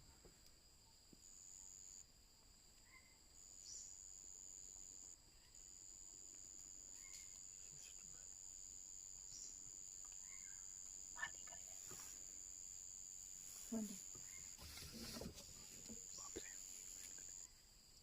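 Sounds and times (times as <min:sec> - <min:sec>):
high-pitched insect chorus: 0:00.5 - 0:18.0.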